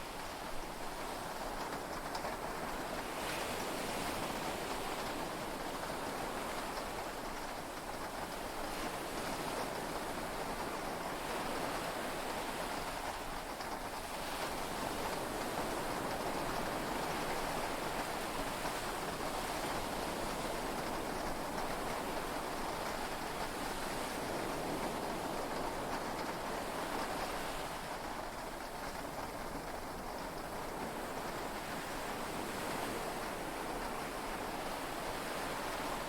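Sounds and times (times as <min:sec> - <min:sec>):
heavy rain on cabin roof: 0:00.0 - 0:36.0.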